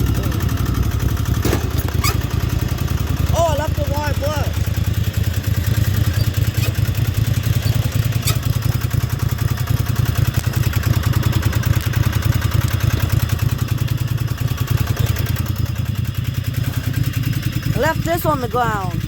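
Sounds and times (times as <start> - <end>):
lawnmower engine running: 0.0 - 19.0.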